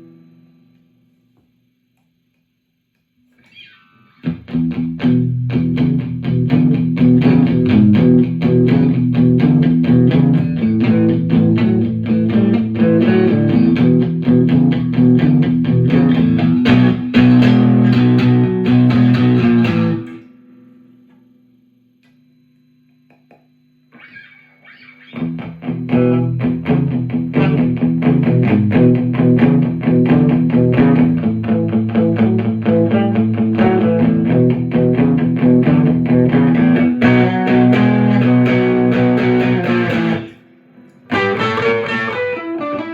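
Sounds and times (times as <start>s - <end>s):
electric guitar picked notes: 3.4s - 21.5s, 23.2s - 42.9s.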